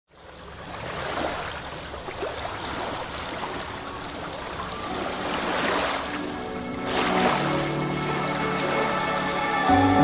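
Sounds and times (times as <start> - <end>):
sea water rushing and splashing: 0.1 - 10.0.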